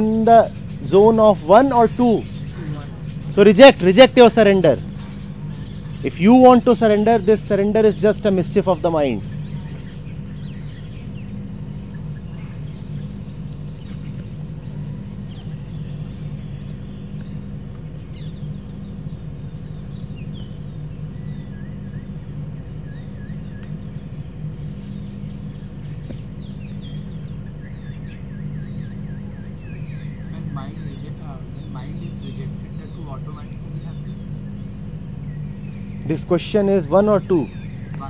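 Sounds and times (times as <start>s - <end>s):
birds chirping: 0.0s - 38.0s
steady low hum: 0.0s - 38.0s.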